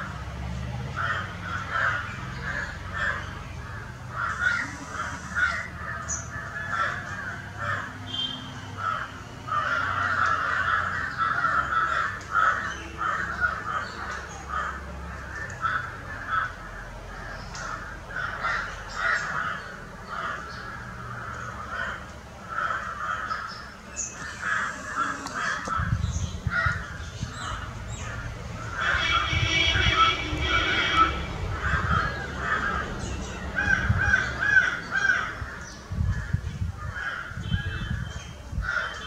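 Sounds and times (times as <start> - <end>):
crows cawing: 0.9 - 37.6, 38.6 - 39.0.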